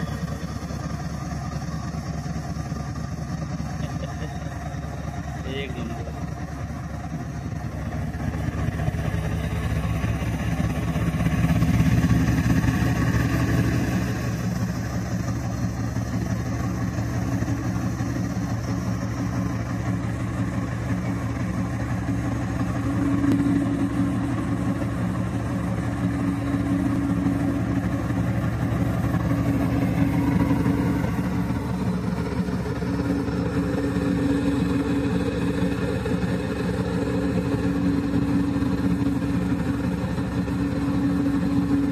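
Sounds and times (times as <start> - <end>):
diesel locomotive engine throbbing: 0.0 - 41.9.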